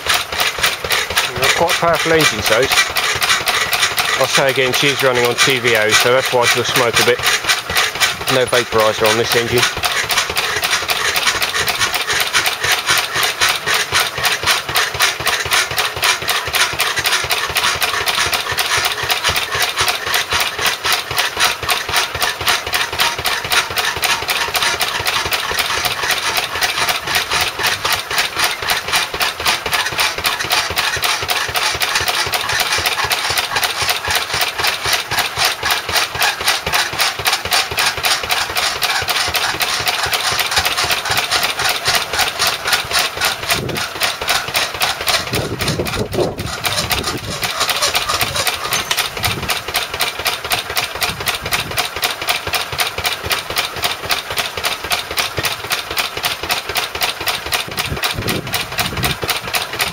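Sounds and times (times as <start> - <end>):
power hacksaw working: 0.0 - 59.9
stationary engine running: 0.0 - 59.9.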